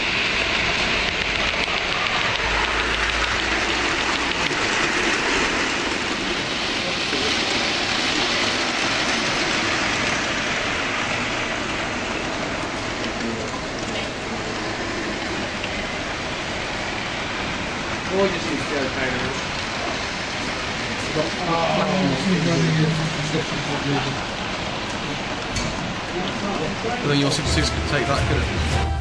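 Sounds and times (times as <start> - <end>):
model trains rattling and whirring: 0.0 - 28.2.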